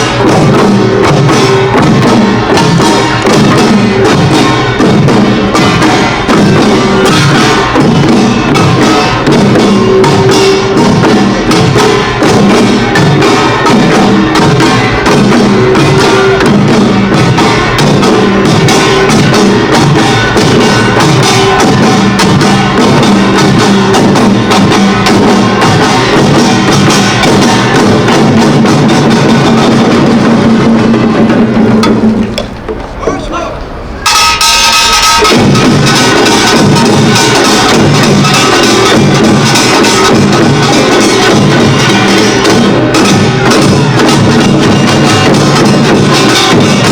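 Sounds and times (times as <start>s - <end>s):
barrel drums: 0.0s - 46.9s
hourglass drums: 0.0s - 46.9s
small gongs clanging: 0.0s - 46.9s.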